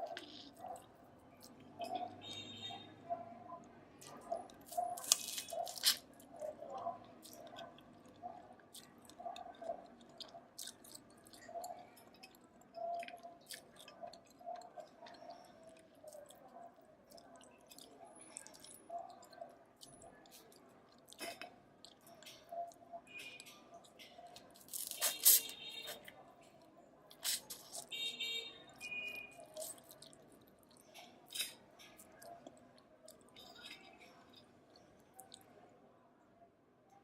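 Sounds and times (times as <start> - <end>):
chewing crab with wet clicks: 0.0 - 2.5, 3.2 - 28.0, 28.8 - 35.7.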